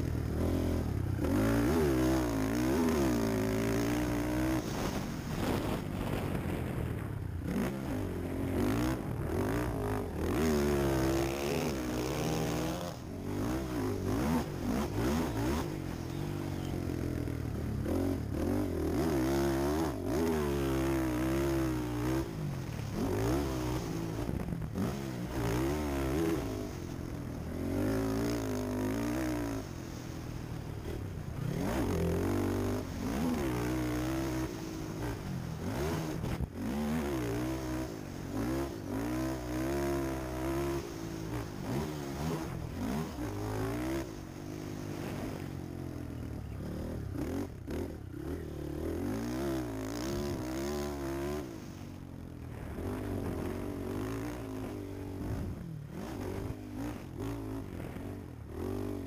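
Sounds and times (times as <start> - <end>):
quad engine revving: 0.0 - 59.0.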